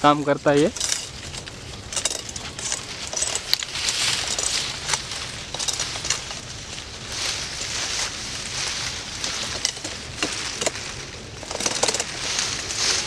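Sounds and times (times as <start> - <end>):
palm fronds rustling: 0.0 - 13.0.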